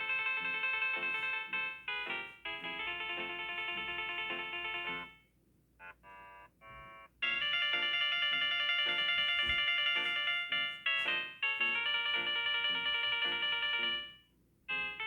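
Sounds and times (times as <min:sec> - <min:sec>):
chiming ringtone melody: 0:00.0 - 0:05.2, 0:05.8 - 0:15.0
ringtone melody: 0:00.0 - 0:05.2, 0:05.8 - 0:15.0.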